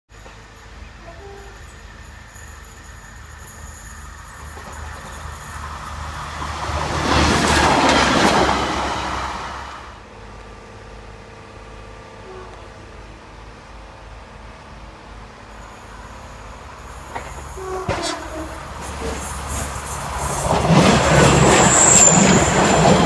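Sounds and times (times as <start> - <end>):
train wheel and rail noise: 0.1 - 23.0.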